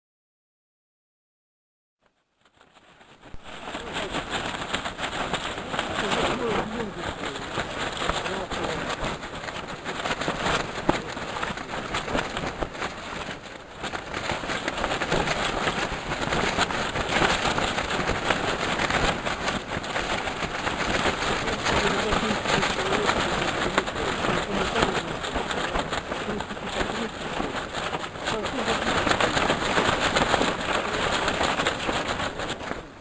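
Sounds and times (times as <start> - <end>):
wind gusting across microphone: 2.8 - 33.0.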